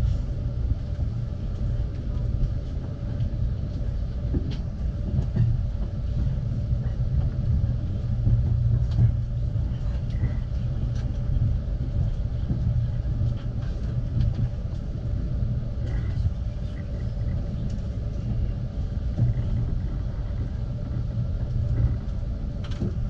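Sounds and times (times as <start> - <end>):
train rumbling on tracks: 0.0 - 23.0.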